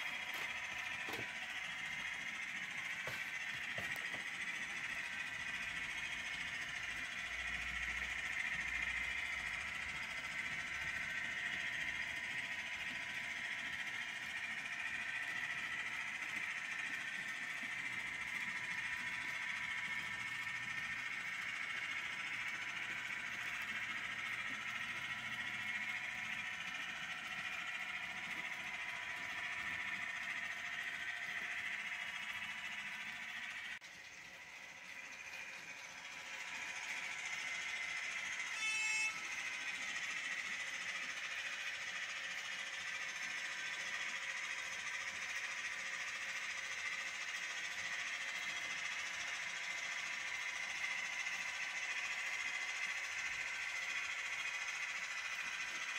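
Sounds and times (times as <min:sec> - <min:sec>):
model train wheels whirring on rails: 0:00.0 - 0:55.9.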